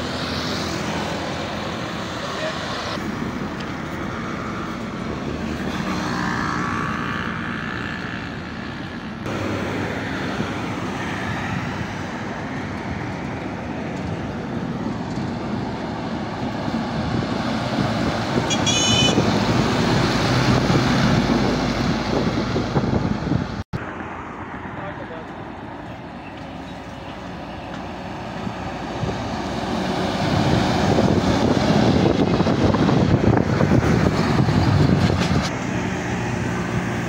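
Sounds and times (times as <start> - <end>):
heavy trucks driving past: 0.0 - 37.0.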